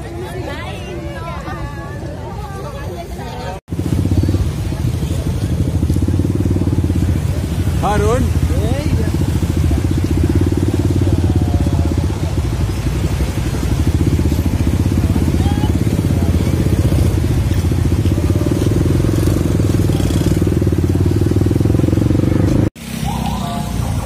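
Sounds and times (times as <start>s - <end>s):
motorcycle engine running: 3.7s - 24.0s.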